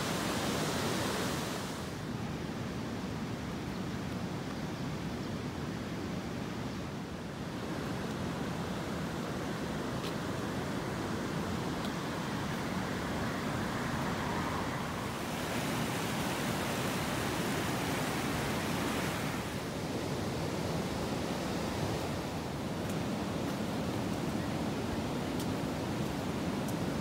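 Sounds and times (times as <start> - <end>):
river rushing over weir: 0.0 - 3.4, 5.6 - 27.0.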